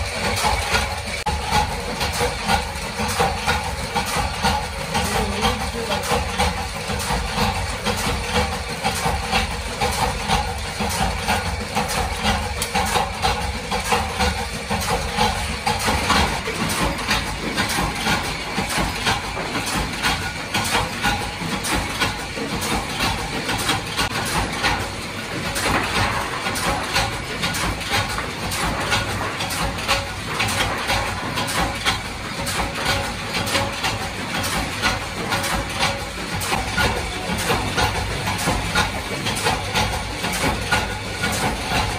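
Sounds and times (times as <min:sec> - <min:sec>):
machine humming: 0:00.0 - 0:41.9.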